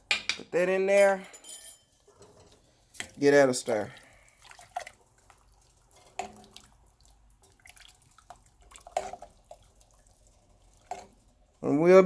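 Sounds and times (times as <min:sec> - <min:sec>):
water stirred in a pot: 0:01.0 - 0:12.0.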